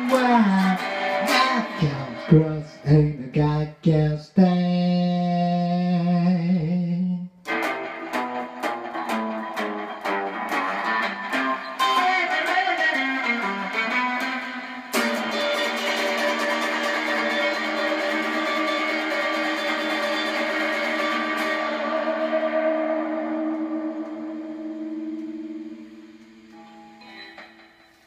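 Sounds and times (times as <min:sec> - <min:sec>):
strummed guitar chord ringing: 0:00.0 - 0:03.0, 0:07.5 - 0:28.0
electric guitar picked notes: 0:00.0 - 0:03.4, 0:07.4 - 0:28.0.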